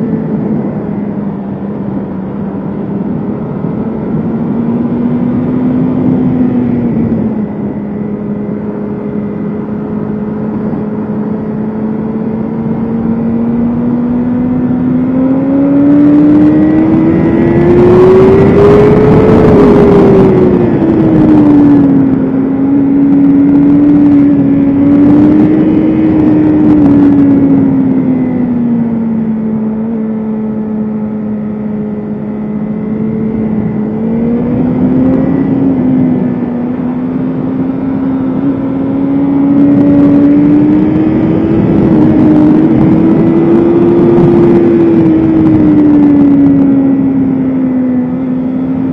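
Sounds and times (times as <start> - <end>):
motorcycle engine at high revs: 0.0 - 48.9
steady rushing noise: 0.0 - 48.9.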